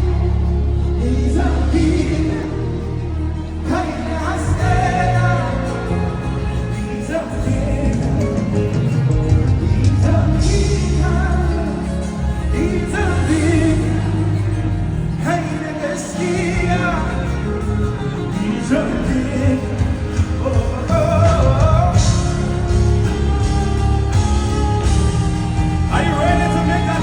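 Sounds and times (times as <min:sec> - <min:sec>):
band with heavy bass: 0:00.0 - 0:27.0
person singing: 0:00.0 - 0:27.0.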